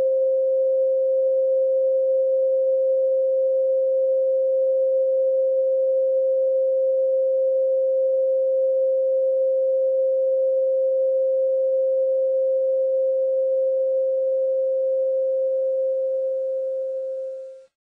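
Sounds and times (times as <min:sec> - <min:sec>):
pure sine tone: 0:00.0 - 0:17.7.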